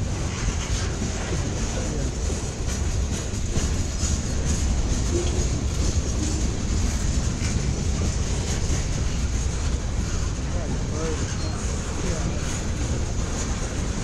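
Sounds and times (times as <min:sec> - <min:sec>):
freight train rolling past: 0:00.0 - 0:14.0
wheels clacking over rails: 0:00.0 - 0:14.0.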